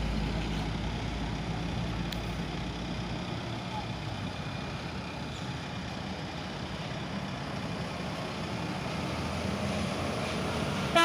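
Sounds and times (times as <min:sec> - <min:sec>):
bus diesel engine: 0:00.0 - 0:11.0.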